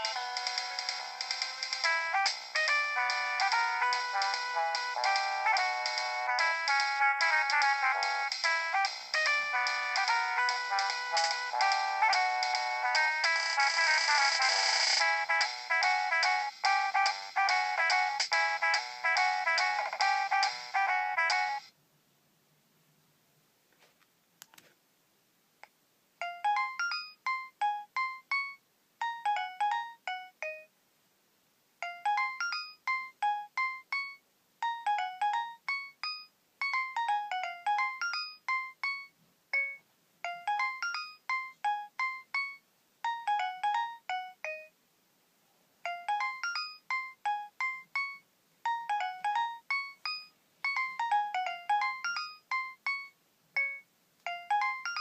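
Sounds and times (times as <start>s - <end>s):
phone ringtone: 0.0s - 21.7s, 26.2s - 30.7s, 31.8s - 44.8s, 45.9s - 55.0s.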